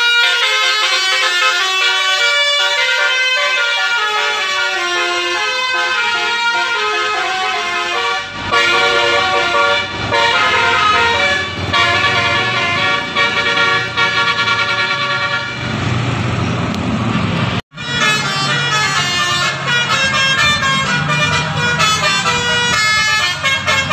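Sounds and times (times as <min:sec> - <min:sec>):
melodic bus horns: 0:00.0 - 0:15.9, 0:17.7 - 0:23.9.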